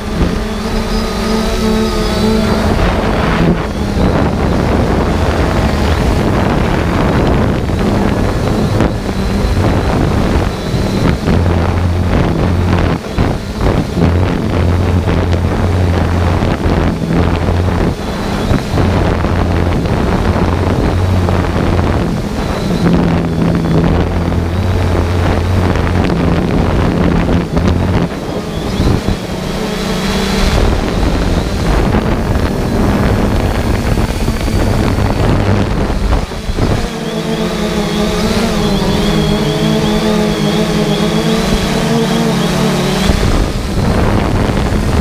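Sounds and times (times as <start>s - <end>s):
drone propeller hum: 0.0s - 45.0s
wind rushing over microphone: 0.0s - 45.0s.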